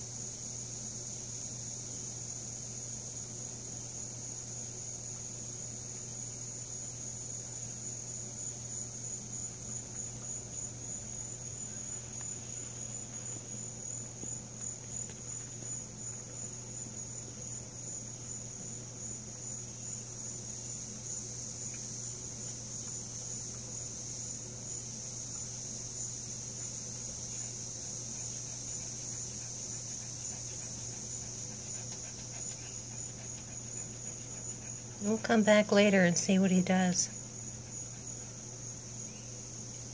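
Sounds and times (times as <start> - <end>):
crickets trilling: 0.0 - 39.9
low steady hum: 0.0 - 39.9.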